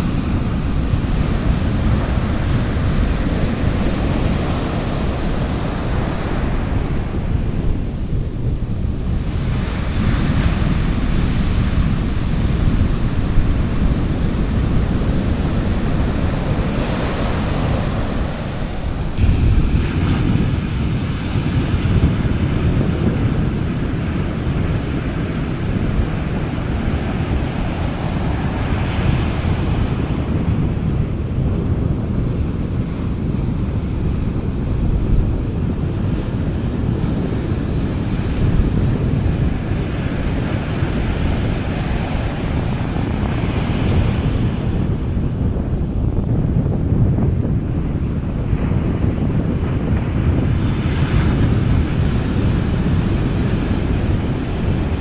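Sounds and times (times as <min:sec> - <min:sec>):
small waves breaking on beach: 0:00.0 - 0:31.6, 0:35.4 - 0:45.8, 0:47.5 - 0:55.0
wind rumble on microphone: 0:00.0 - 0:55.0.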